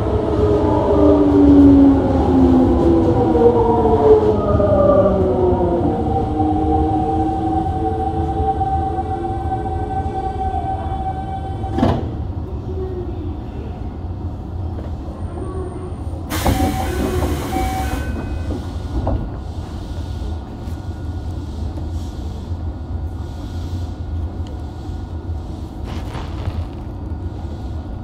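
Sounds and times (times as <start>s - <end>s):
low hum of train equipment: 0.0s - 28.0s.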